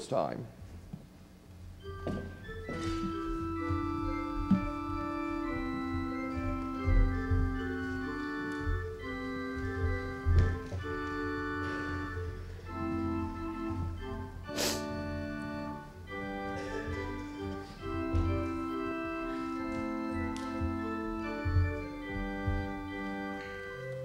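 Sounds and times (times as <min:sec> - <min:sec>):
footsteps thumping: 0:00.6 - 0:24.0
church organ chords: 0:01.6 - 0:24.0.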